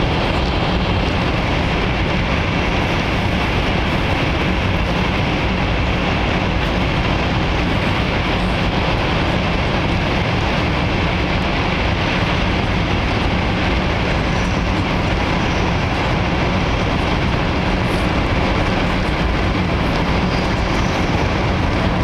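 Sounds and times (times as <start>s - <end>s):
high speed train running: 0.0s - 22.0s.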